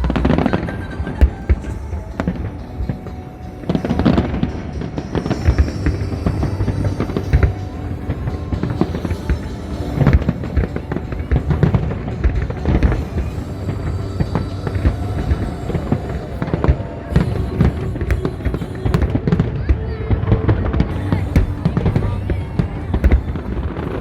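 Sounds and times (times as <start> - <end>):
fireworks bangs and crackles: 0.0 - 24.0
music playing: 0.0 - 24.0.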